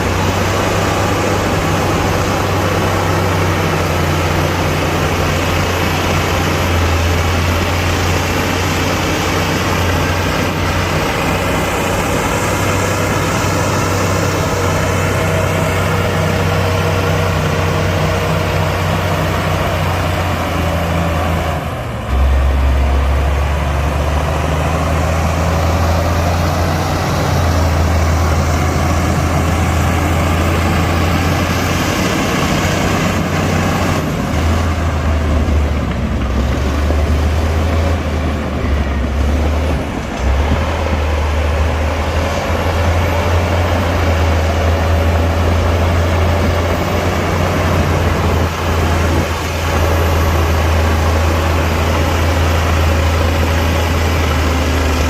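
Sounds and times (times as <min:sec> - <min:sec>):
heavy diesel machine engine running: 0:00.0 - 0:55.0.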